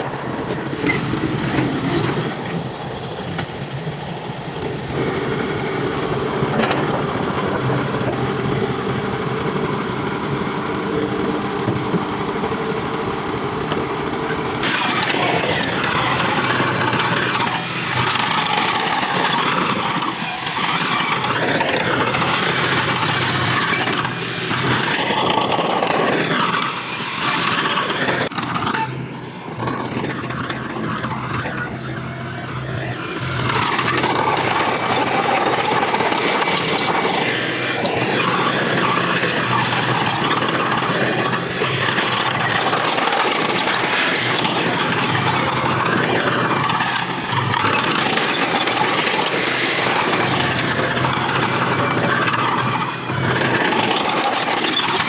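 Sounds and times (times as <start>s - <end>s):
diesel engine running: 0.0s - 55.0s
rough machinery sound with wavering tones: 0.0s - 55.0s.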